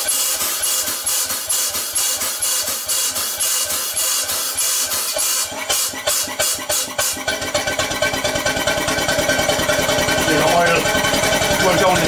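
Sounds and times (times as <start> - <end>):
steam engine chuffing: 0.0 - 12.0.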